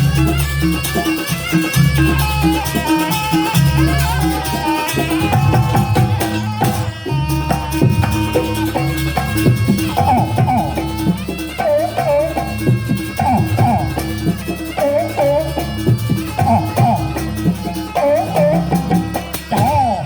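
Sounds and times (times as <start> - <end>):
traditional ensemble music: 0.0 - 20.0.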